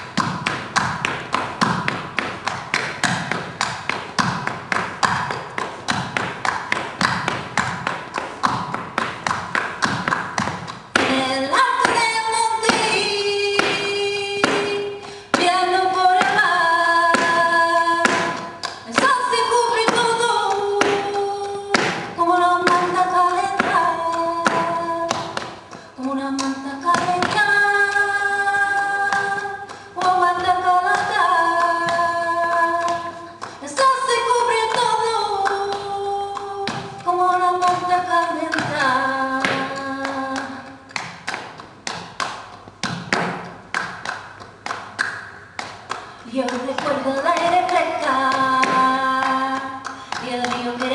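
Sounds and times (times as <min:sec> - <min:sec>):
dancer's shoe taps and stamps: 0:00.0 - 0:28.0, 0:29.1 - 0:50.9
woman singing flamenco: 0:00.0 - 0:50.9.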